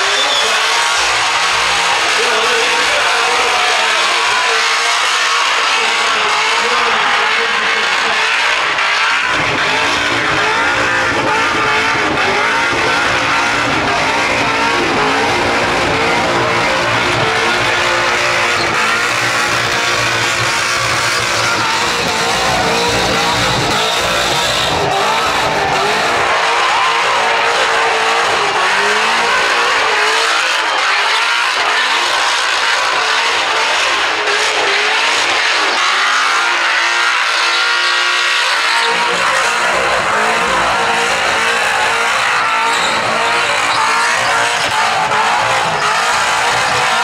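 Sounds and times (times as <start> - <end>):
car engine revving high: 0.0 - 47.0
tyres screeching: 0.0 - 47.0.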